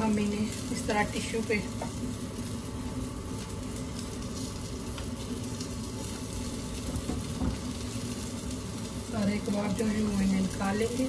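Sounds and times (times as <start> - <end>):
kababs sizzling in oil: 0.0 - 11.0
low steady hum: 0.0 - 11.0.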